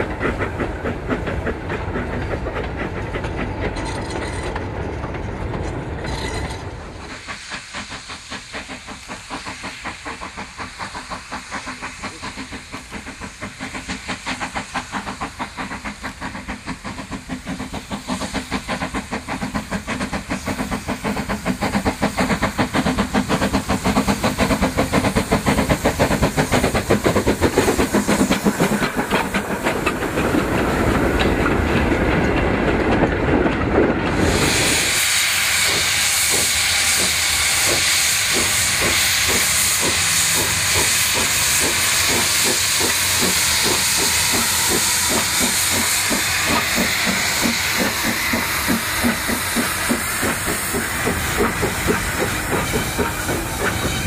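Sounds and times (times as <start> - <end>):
steam locomotive exhaust beats: 0.0 - 54.0
loud steam hiss: 6.8 - 32.6, 33.7 - 54.0.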